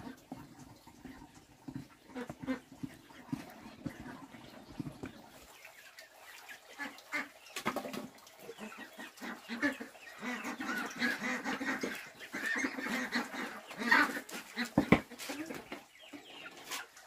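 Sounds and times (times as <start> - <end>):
poultry clucking: 0.0 - 17.0.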